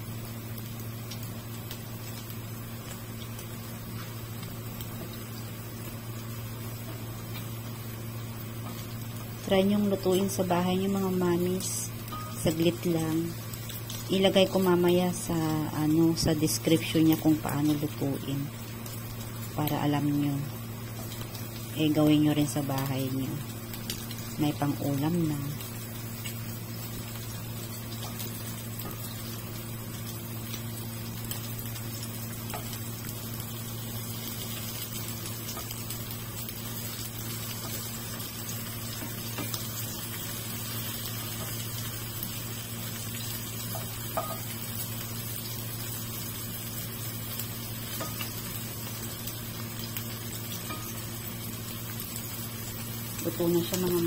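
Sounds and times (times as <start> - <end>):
patties sizzling in oil: 0.0 - 54.0
steady low hum: 0.0 - 54.0.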